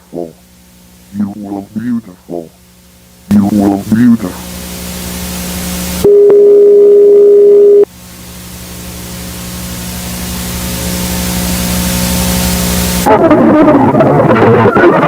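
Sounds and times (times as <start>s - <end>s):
low hum: 0.0s - 15.0s
static hiss: 0.0s - 15.0s.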